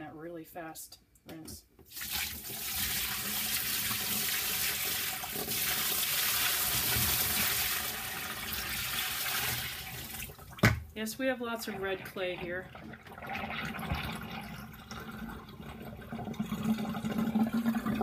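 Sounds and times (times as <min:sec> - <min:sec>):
water pouring into a sink: 0:01.9 - 0:10.8, 0:11.6 - 0:18.0.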